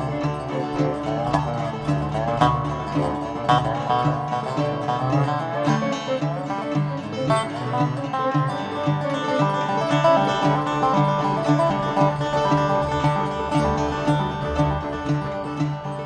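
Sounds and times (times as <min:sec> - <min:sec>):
string band playing fast: 0:00.0 - 0:16.0.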